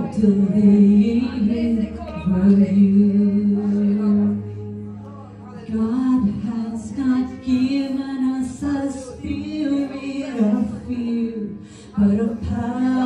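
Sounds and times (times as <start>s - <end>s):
woman singing into microphone: 0.0s - 13.0s.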